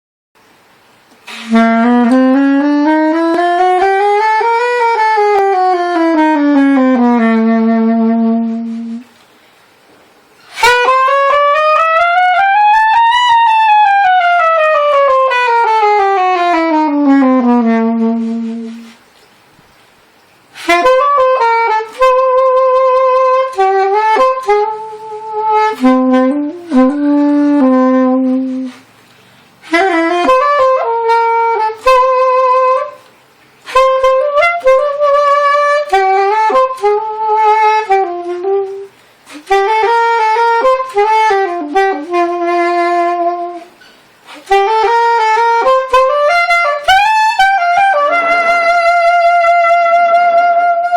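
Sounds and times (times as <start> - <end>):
saxophone melody: 1.1 - 50.9.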